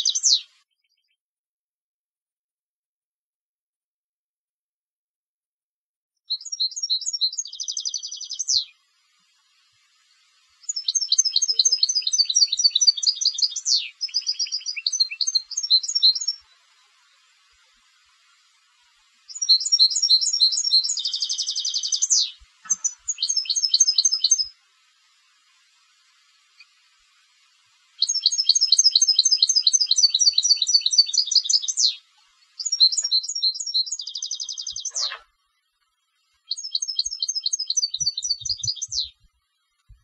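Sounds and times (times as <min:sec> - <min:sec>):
goldfinch singing trills: 0:00.0 - 0:01.2, 0:06.3 - 0:09.5, 0:10.2 - 0:35.7, 0:36.3 - 0:39.3.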